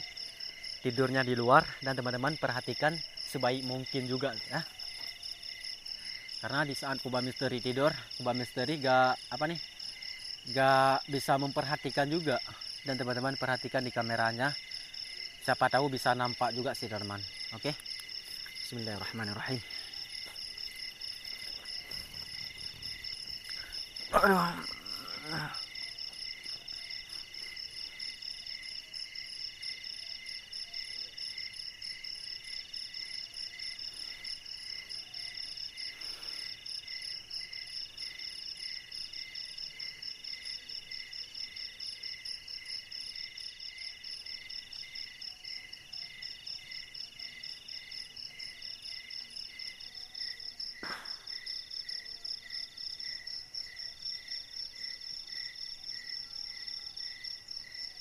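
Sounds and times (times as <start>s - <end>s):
crickets and insects chirping: 0.0s - 58.0s.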